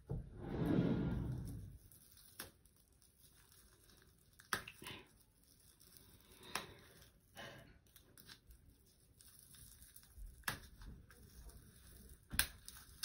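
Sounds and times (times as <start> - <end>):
fingers crinkling wrapper: 1.8 - 13.0.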